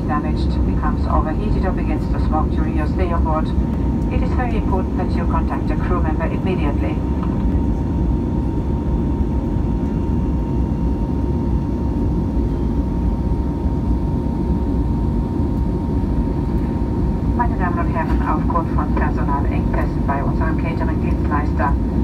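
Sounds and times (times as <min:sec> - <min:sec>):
airplane cabin engine drone: 0:00.0 - 0:22.0
steady mid-pitched hum: 0:00.0 - 0:22.0.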